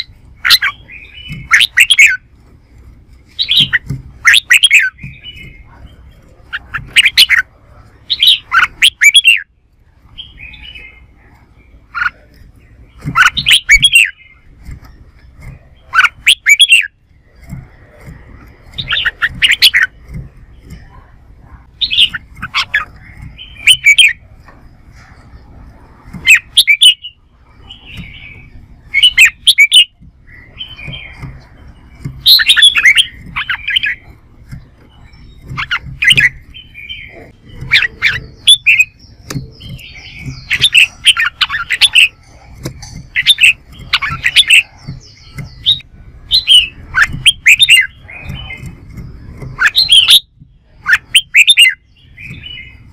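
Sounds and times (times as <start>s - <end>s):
bulbul singing warbling phrases: 0.0s - 2.3s, 3.3s - 14.7s, 15.3s - 24.3s, 26.2s - 52.9s
low steady rumble: 0.0s - 52.9s.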